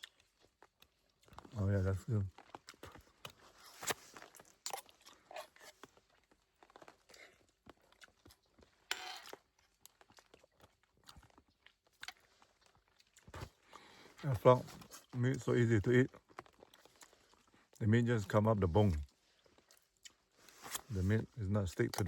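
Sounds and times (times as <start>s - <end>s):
person chewing and crunching: 0.0s - 22.0s.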